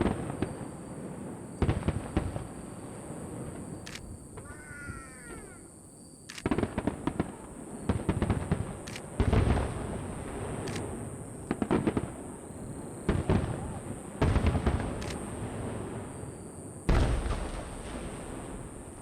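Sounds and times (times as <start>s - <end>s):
fireworks booming and crackling: 0.0s - 4.6s, 6.3s - 19.0s.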